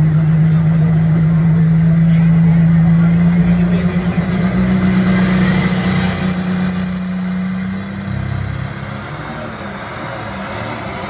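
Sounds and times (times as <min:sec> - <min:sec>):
high engine whine: 0:00.0 - 0:11.0
tractor diesel engine droning: 0:00.0 - 0:11.0.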